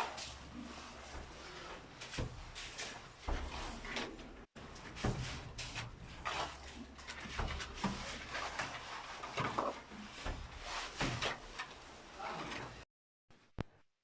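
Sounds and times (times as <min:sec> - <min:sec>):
hand tools scraping and knocking: 0:00.0 - 0:12.8.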